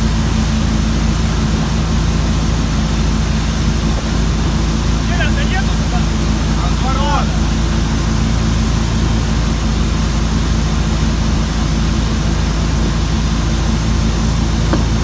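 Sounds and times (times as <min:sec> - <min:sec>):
wind noise: 0:00.0 - 0:06.6, 0:07.3 - 0:15.0
boat engine hum: 0:00.0 - 0:15.0
water rushing: 0:00.0 - 0:15.0.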